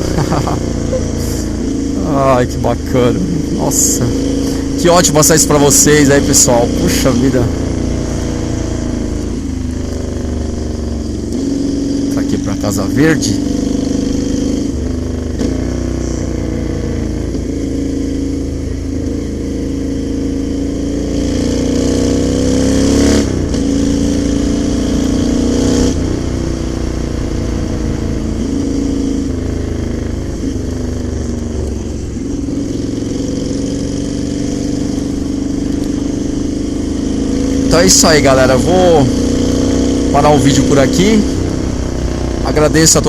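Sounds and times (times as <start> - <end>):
motorcycle engine while riding: 0.0 - 43.0.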